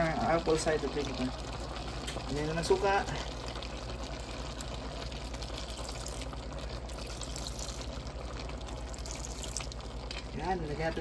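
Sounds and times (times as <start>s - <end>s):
stew bubbling and hissing: 0.9s - 10.4s.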